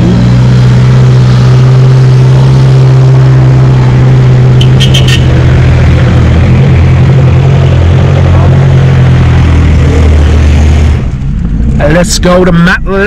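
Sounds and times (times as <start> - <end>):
vehicles driving past on dirt: 0.0 - 13.0.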